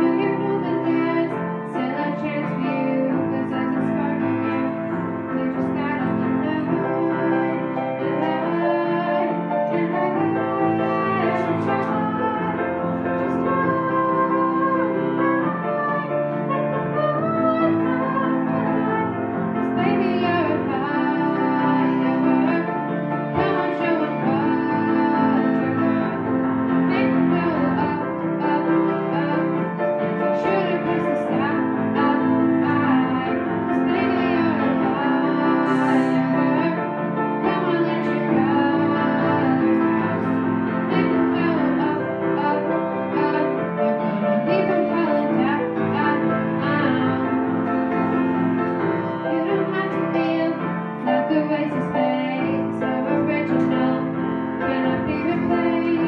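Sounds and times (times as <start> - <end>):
girl singing into microphone: 0.0 - 19.0, 19.6 - 29.6, 30.4 - 36.8, 37.4 - 47.3, 48.9 - 56.0
grand piano: 0.0 - 56.0.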